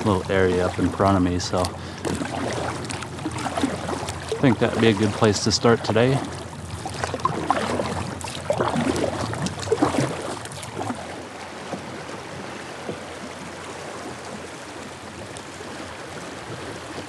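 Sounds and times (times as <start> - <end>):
paddle strokes splashing: 0.0 - 17.0
river current rushing: 0.0 - 17.0.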